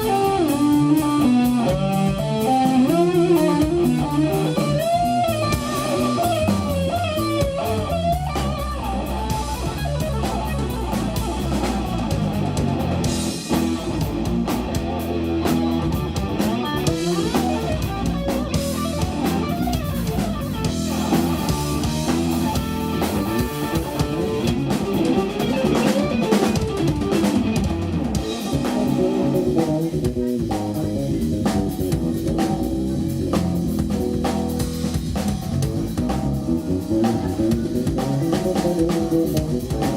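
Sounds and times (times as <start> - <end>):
bass: 0.0 - 39.9
drum kit: 0.0 - 39.9
electric guitar lead line: 0.0 - 39.9.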